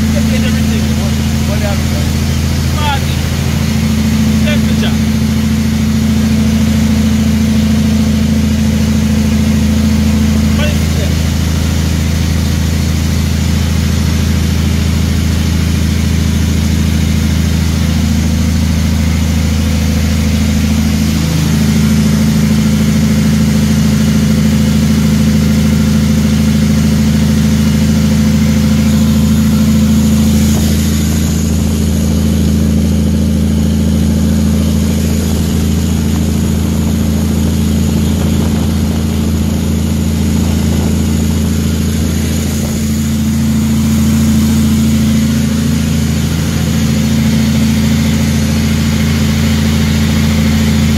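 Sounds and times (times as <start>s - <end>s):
truck diesel engine running: 0.0s - 50.9s.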